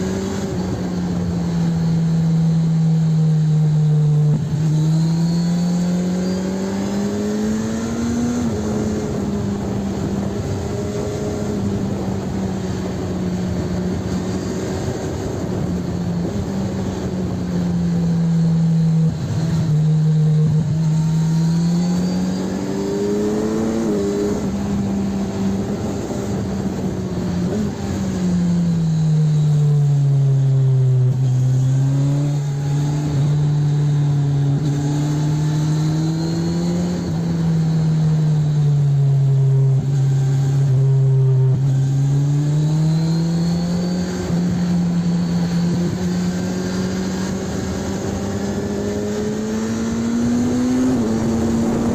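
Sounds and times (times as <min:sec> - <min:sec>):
motorcycle engine revving: 0:00.0 - 0:51.9
wind and road noise: 0:00.0 - 0:51.9.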